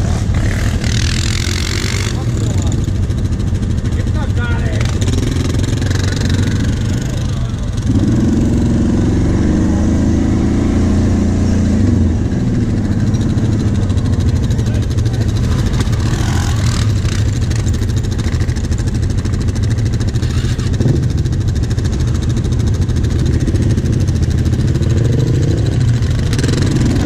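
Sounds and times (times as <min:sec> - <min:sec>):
quad engine running: 0:00.0 - 0:27.0.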